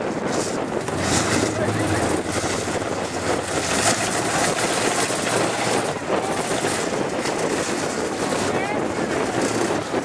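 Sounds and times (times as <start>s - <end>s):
pickup truck engine rumbling: 0.0s - 10.0s.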